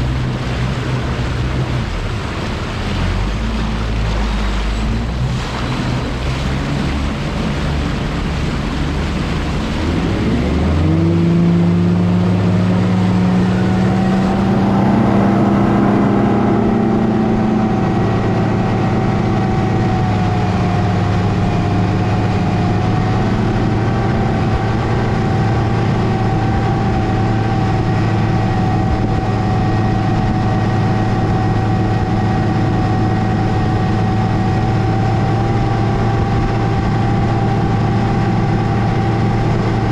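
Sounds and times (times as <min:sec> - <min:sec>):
outboard motor humming: 0:00.0 - 0:39.9
wind and water rushing: 0:00.0 - 0:39.9.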